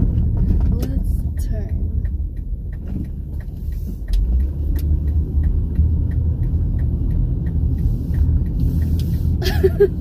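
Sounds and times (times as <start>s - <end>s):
car cabin road rumble: 0.0s - 10.0s
light even ticking: 0.1s - 10.0s.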